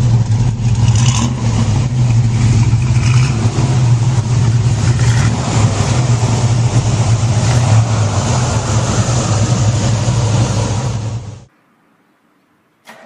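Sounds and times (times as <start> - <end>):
car engine running loudly: 0.0 - 11.5.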